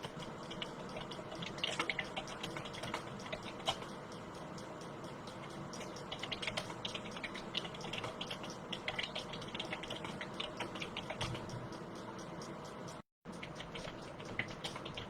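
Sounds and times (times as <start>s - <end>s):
computer keyboard typing: 0.0s - 15.0s.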